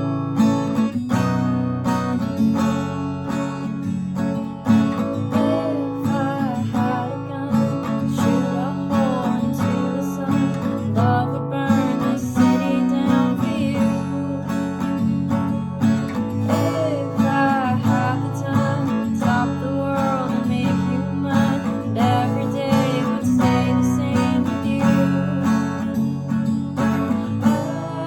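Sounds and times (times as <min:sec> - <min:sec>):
strummed acoustic guitar: 0:00.0 - 0:28.0.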